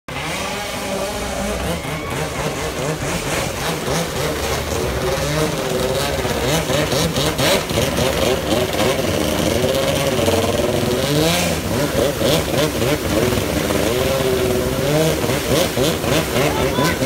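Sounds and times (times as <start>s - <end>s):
jet ski engine revving: 0.1s - 17.0s
spray and rushing water: 0.1s - 17.0s.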